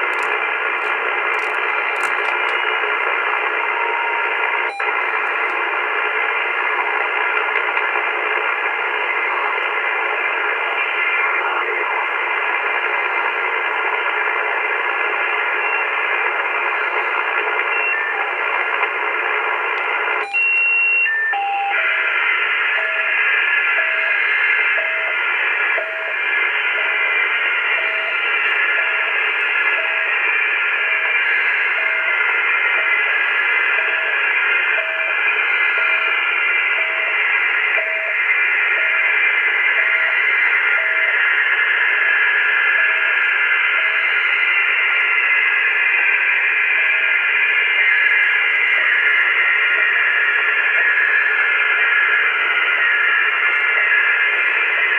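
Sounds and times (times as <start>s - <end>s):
radio band noise hiss: 0.0s - 54.9s.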